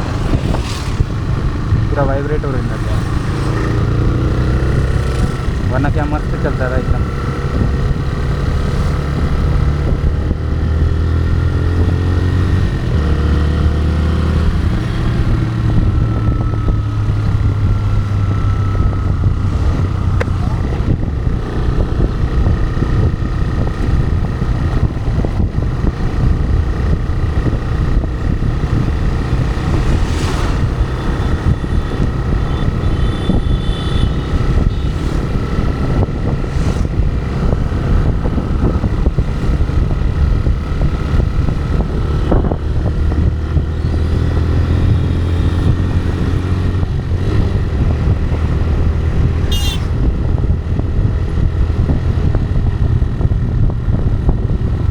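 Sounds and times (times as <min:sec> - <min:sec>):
motorcycle engine running: 0:00.0 - 0:54.9
wind rushing over microphone: 0:00.0 - 0:54.9.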